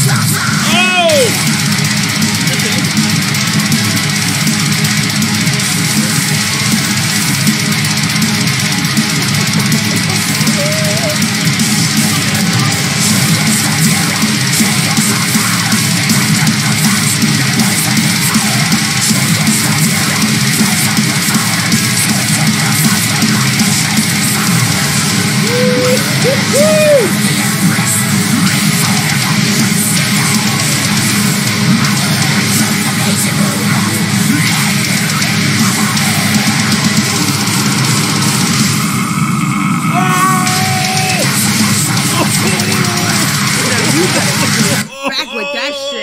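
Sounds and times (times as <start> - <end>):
heavy metal music: 0.0 - 46.0.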